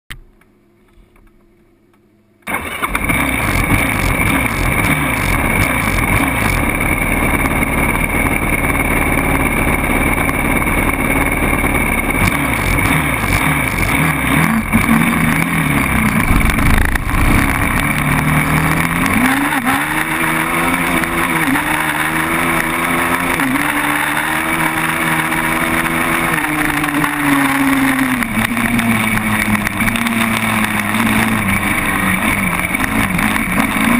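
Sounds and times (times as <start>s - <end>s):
quad bike engine: 2.4s - 33.9s.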